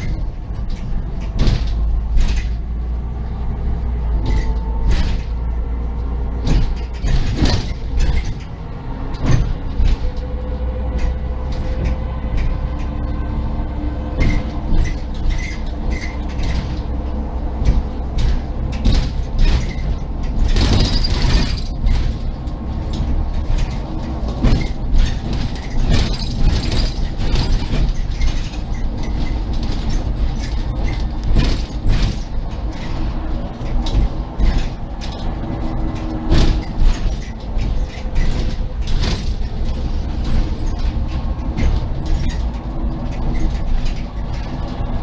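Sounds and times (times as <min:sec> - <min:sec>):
bus engine and tyres droning: 0:00.0 - 0:45.0
rattles and creaks of bus fittings: 0:00.0 - 0:45.0.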